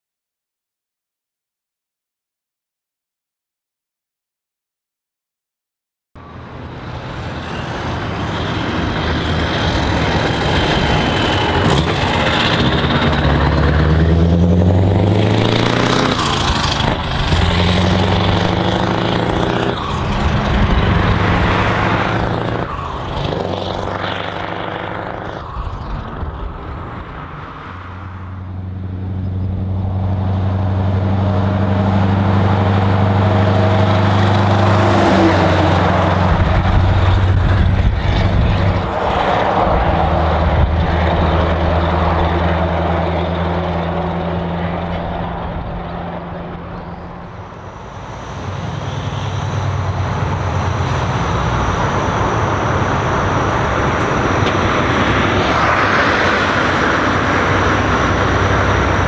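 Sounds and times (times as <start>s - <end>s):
diesel truck engines accelerating: 6.2s - 59.0s
truck approaching: 6.2s - 59.0s.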